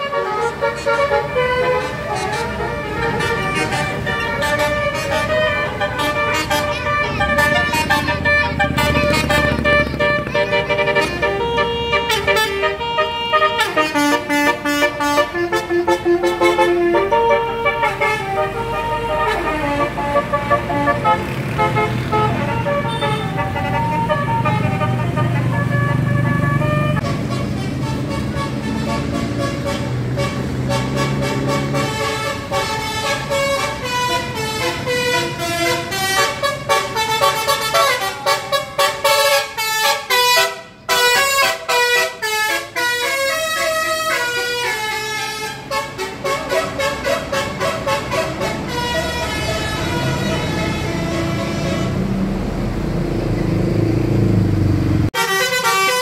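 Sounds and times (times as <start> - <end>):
musical bus horn: 0.0 - 52.4, 55.1 - 56.0.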